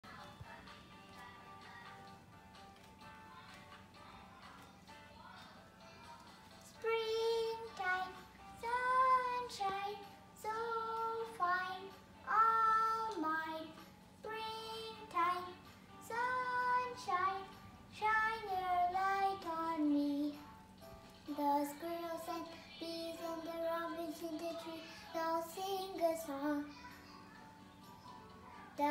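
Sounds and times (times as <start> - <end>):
girl singing: 0.0 - 2.3, 3.0 - 20.5, 21.3 - 28.9.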